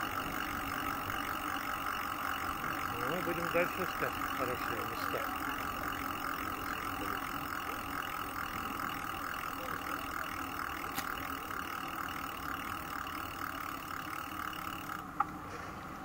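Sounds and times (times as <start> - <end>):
bicycle tyre noise: 0.0 - 16.0.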